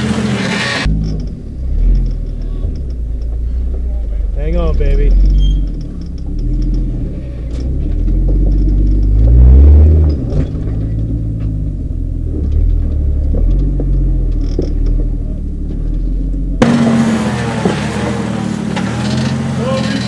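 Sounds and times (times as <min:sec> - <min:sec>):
buggy engine under load: 0:00.0 - 0:20.0.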